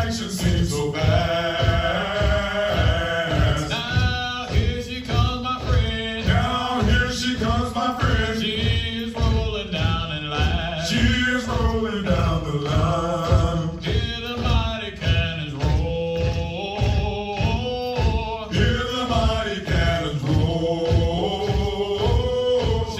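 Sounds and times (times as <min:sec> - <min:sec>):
steady low beat: 0:00.0 - 0:22.9.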